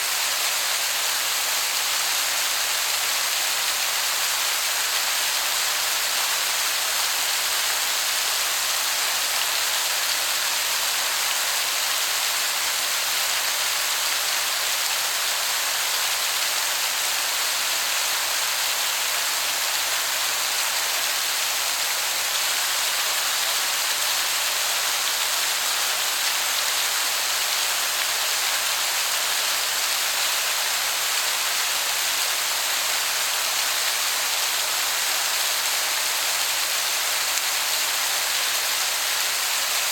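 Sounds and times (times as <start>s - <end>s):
waterfall hiss: 0.0s - 39.9s.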